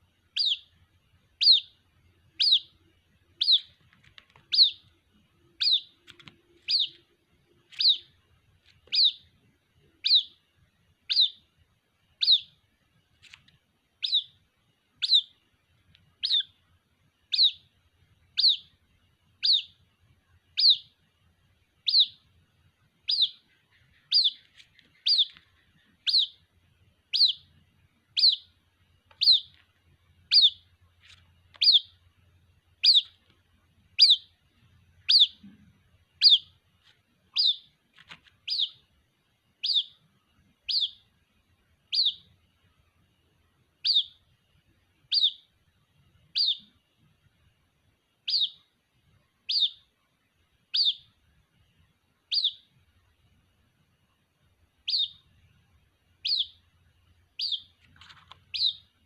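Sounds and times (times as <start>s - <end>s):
bird chick peeping: 0.0s - 47.5s, 48.1s - 53.6s, 54.2s - 59.0s.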